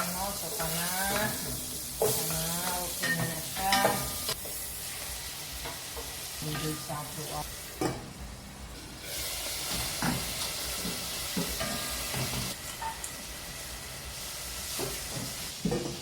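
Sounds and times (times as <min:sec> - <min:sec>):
chicken wings sizzling in a wok: 0:00.0 - 0:16.0.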